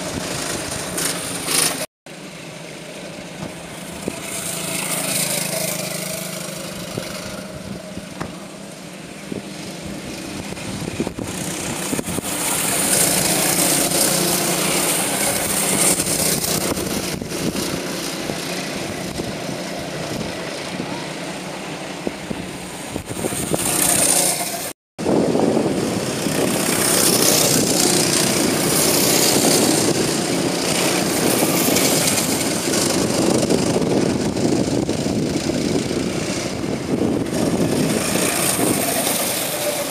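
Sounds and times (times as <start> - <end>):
go-kart engines buzzing: 0.0 - 39.9.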